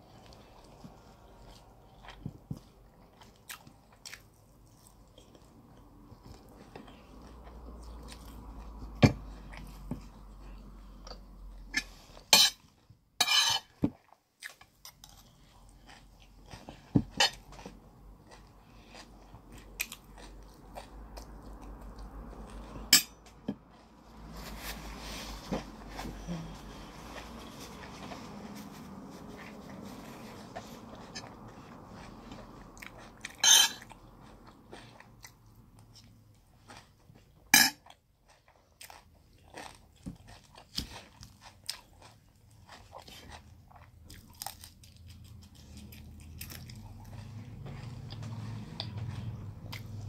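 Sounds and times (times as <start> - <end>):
person chewing and eating: 0.0 - 50.0.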